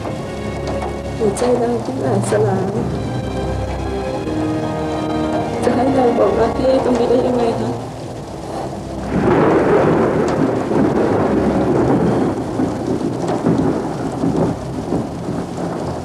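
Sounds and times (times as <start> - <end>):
rain falling: 0.0 - 16.0
thunder rumble: 0.0 - 16.0.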